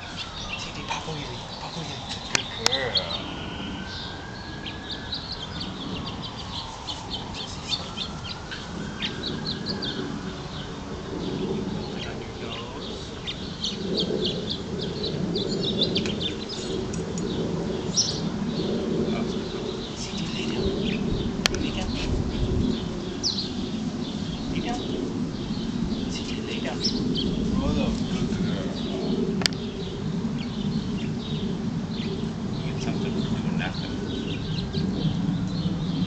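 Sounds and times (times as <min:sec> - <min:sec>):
low murmur: 0:00.0 - 0:04.3, 0:05.5 - 0:36.0
small birds chirping: 0:00.0 - 0:36.0.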